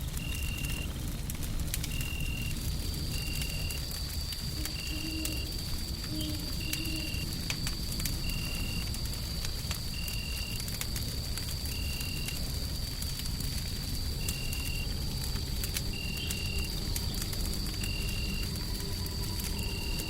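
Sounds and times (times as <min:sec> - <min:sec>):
low rumble of white noise: 0:00.0 - 0:20.0
wood fire crackling: 0:00.0 - 0:20.0.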